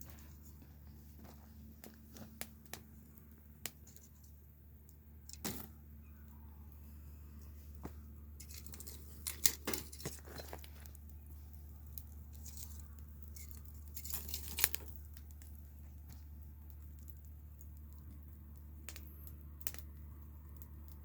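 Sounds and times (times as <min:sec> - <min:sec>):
low hum: 0:00.0 - 0:21.0
wood fire crackling: 0:00.0 - 0:21.0.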